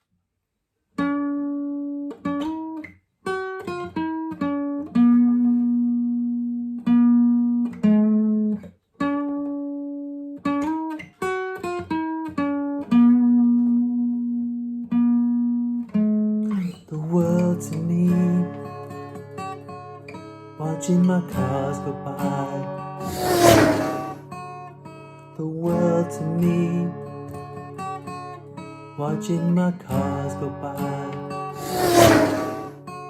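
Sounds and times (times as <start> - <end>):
acoustic guitar melody: 1.0 - 33.0.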